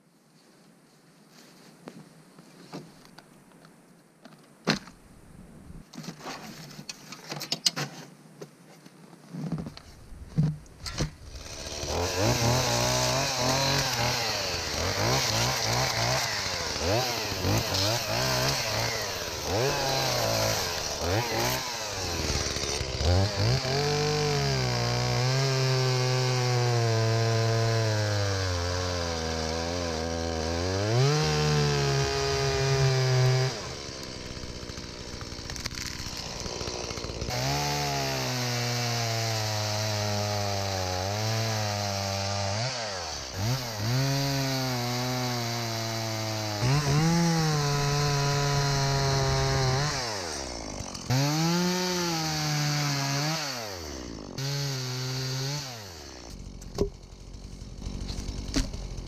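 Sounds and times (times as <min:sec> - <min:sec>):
chainsaw cutting wood: 0:09.5 - 0:59.0.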